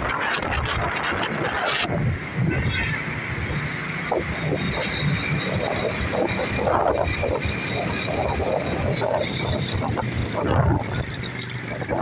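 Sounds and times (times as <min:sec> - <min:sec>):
road and engine noise: 0:00.0 - 0:12.0
wind buffeting microphone: 0:00.0 - 0:12.0.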